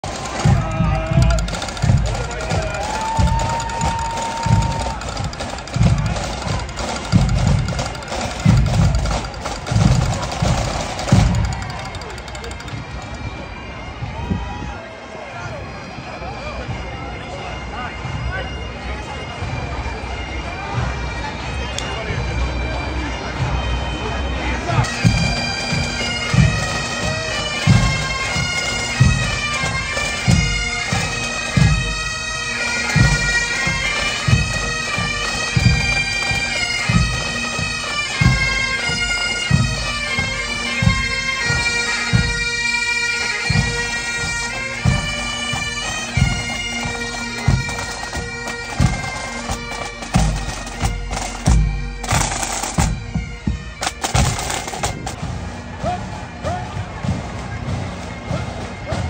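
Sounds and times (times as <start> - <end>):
marching drum beating: 0.0 - 13.2, 24.8 - 59.0
bagpipes playing over drones: 0.1 - 59.0.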